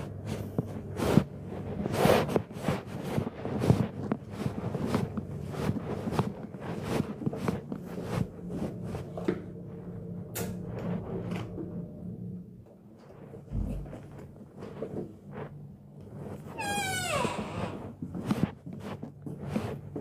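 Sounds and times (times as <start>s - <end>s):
footsteps in hallway: 0.0s - 11.8s, 13.0s - 20.0s
steady low hum: 0.0s - 20.0s.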